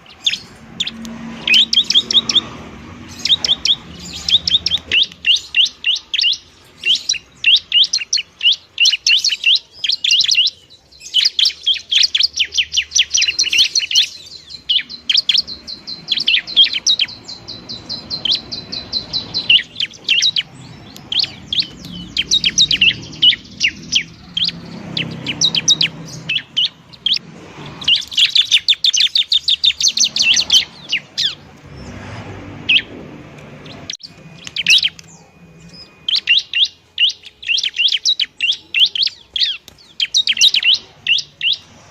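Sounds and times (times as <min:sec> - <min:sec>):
bird sharp high chirping: 0:00.0 - 0:41.9.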